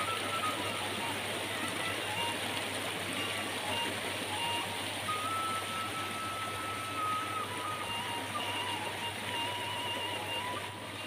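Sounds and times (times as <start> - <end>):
whistle-like tune: 0.0 - 2.6, 3.2 - 11.0
stream rushing over stones: 0.0 - 11.0.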